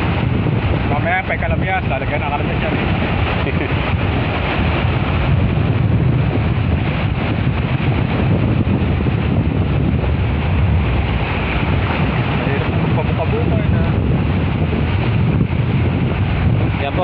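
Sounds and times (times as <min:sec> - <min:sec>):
sea water washing: 0:00.0 - 0:17.0
wind buffeting microphone: 0:00.0 - 0:17.0.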